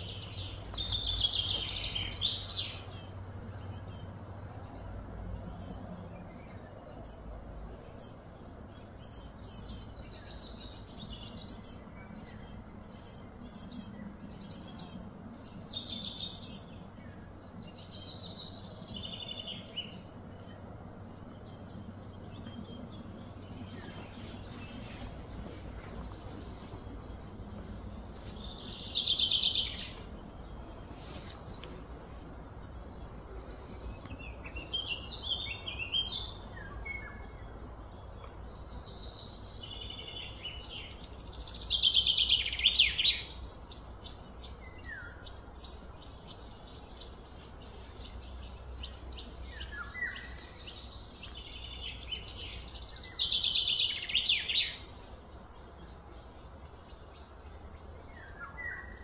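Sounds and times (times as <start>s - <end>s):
birds singing trilled phrases: 0.0s - 59.0s
low background hum: 0.0s - 59.0s.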